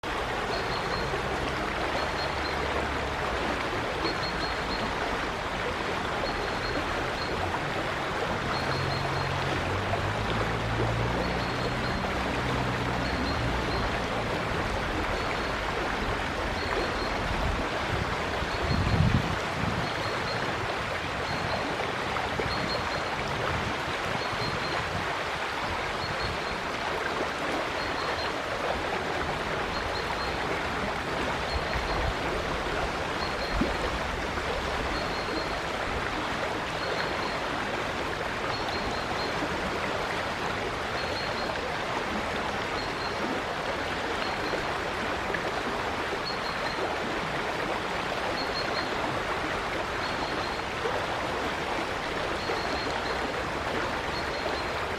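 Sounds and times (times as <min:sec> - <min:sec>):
river water flowing over stones: 0:00.0 - 0:54.9.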